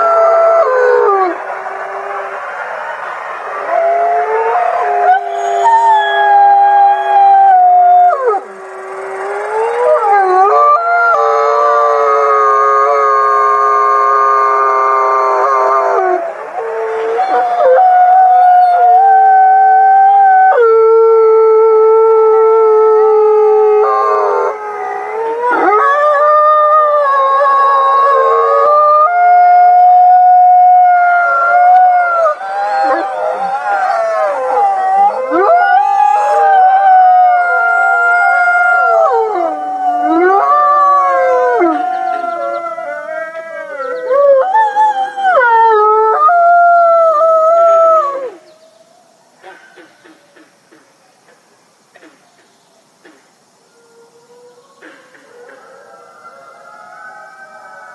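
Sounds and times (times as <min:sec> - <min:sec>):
wolves howling: 0:00.0 - 0:48.5.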